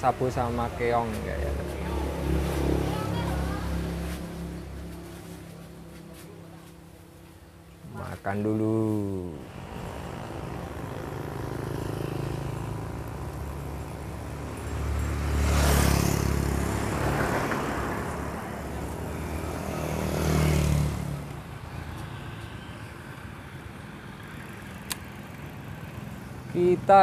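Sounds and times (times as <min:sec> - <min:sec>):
vehicles passing by: 0:00.0 - 0:27.0.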